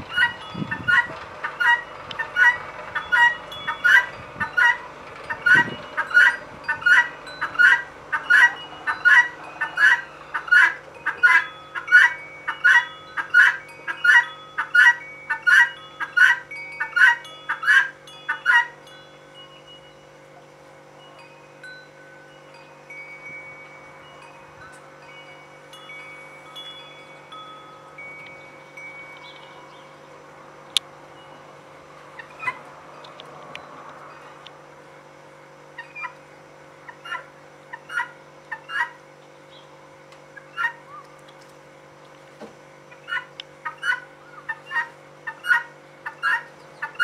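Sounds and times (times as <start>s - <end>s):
wind chimes ringing: 0.0s - 38.4s.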